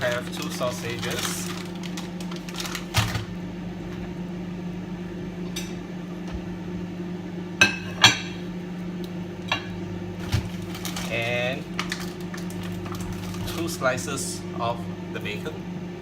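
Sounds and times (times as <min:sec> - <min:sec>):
microwave oven humming: 0:00.0 - 0:16.0.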